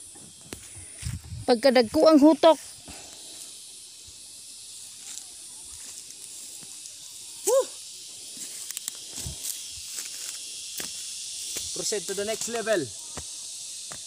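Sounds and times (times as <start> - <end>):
insects hissing in field: 0.0 - 14.0.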